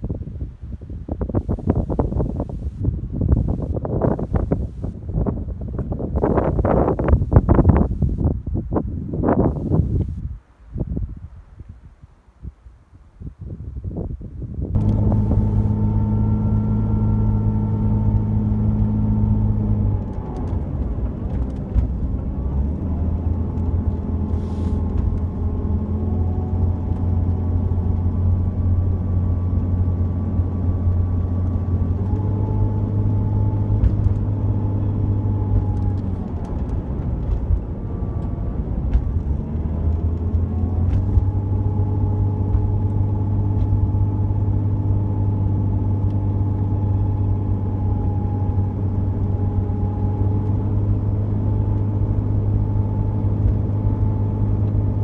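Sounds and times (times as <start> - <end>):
low road rumble: 0.0 - 55.0
car engine droning: 1.3 - 8.4, 9.2 - 10.2, 14.7 - 55.0.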